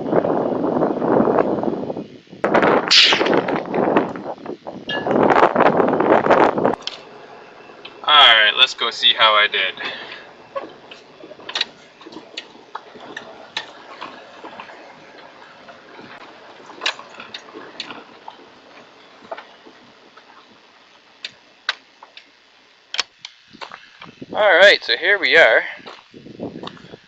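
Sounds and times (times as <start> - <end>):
faint steady hiss: 1.9 - 27.0.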